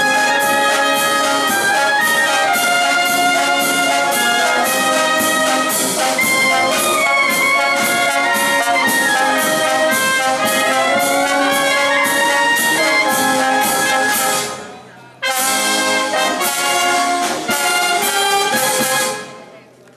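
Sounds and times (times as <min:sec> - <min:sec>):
brass band playing: 0:00.0 - 0:19.5.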